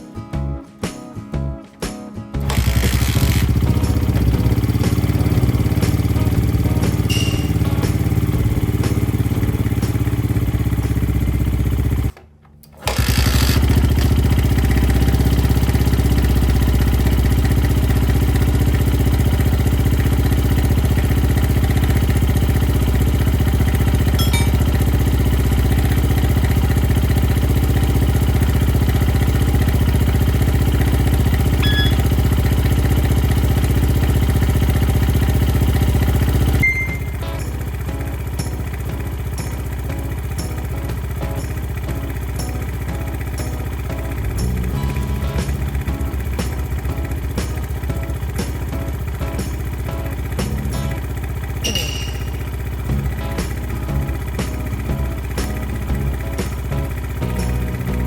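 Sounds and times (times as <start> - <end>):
small engine idling: 2.4 - 12.2, 12.8 - 58.0.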